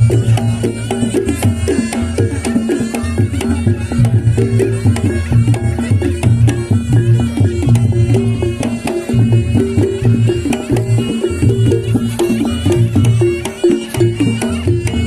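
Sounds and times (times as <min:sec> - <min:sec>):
drums and tuned gongs: 0:00.0 - 0:15.0
wavering high melody: 0:00.0 - 0:15.0.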